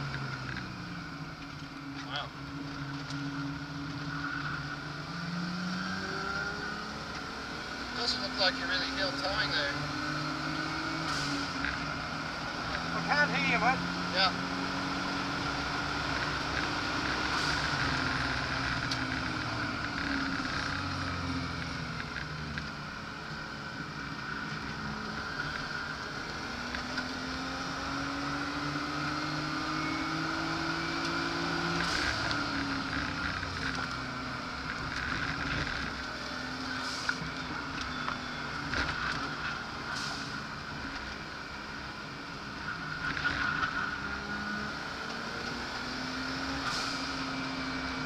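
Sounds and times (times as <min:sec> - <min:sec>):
car engine revving: 0:00.0 - 0:48.0
road and wind noise: 0:00.0 - 0:48.0.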